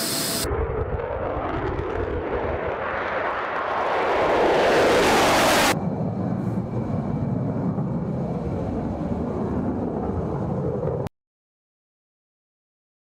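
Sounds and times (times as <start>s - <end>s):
loud jet noise: 0.0s - 10.7s
distant jet rumble: 0.0s - 11.1s.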